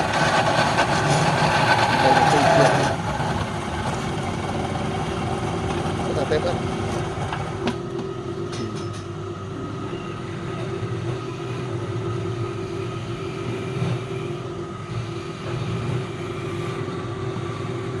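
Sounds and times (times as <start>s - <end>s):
wood lathe motor drone: 0.0s - 8.2s, 10.4s - 18.0s.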